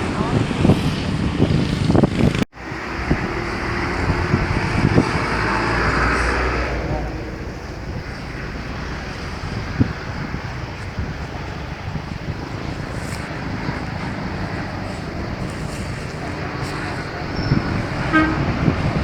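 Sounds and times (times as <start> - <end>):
combine harvester engine running: 0.0 - 19.0
faint voices: 2.6 - 19.0.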